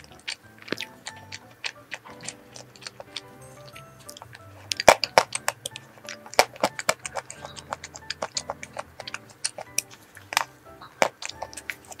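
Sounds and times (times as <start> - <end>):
mouth clicks and smacks chewing: 0.0 - 12.0
soft background music: 0.0 - 12.0.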